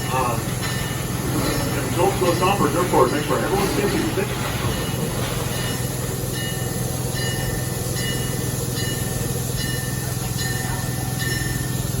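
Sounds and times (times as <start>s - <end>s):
locomotive low hum: 0.0s - 12.0s.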